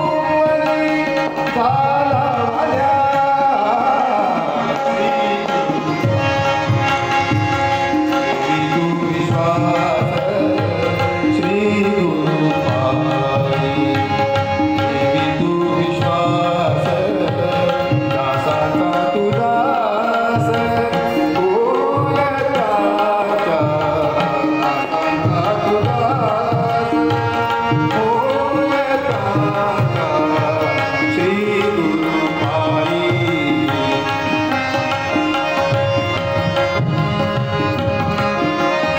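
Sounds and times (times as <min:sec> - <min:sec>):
harmonium reed tones: 0:00.0 - 0:38.9
man singing: 0:00.0 - 0:38.9
tabla strokes: 0:00.0 - 0:38.9.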